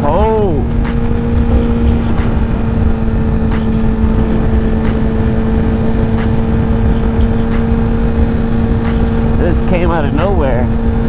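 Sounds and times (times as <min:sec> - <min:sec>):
motorcycle engine droning: 0:00.0 - 0:11.0
wind rumble on microphone: 0:00.0 - 0:11.0.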